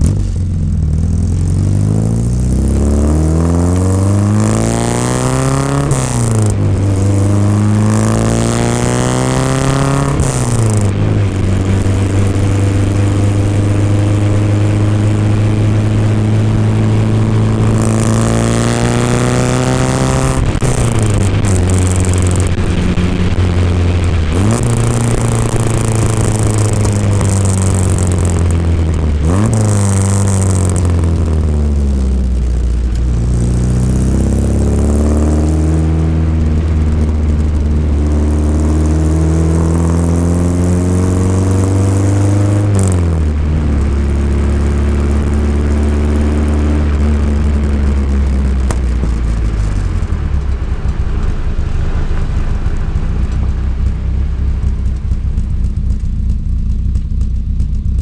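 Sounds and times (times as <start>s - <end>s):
car engine from inside cabin: 0.0s - 58.0s
wind and road noise hiss: 4.6s - 56.2s.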